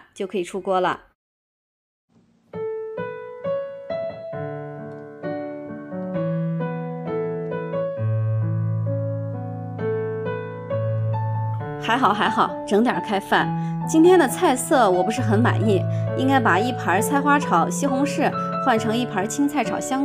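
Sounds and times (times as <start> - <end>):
slow piano music: 2.2 - 20.0.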